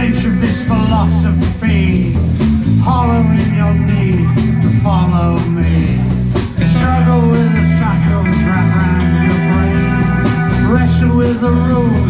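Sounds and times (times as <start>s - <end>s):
bass guitar: 0.0s - 12.0s
drums with cymbal strokes: 0.0s - 12.0s
electric lead guitar bending notes: 0.0s - 12.0s.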